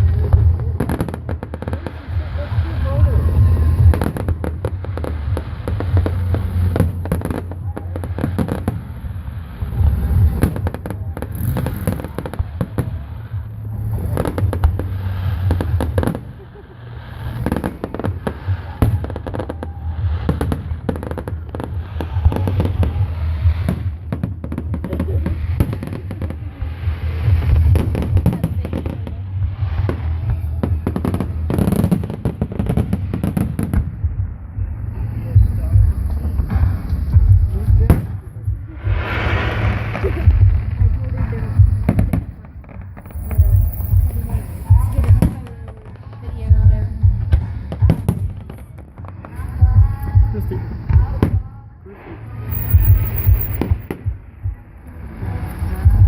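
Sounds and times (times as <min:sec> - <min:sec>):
fireworks crackling: 0:00.0 - 0:46.5, 0:47.2 - 0:54.4
fireworks bangs and booms: 0:00.0 - 0:56.0
low rumble: 0:00.0 - 0:56.0.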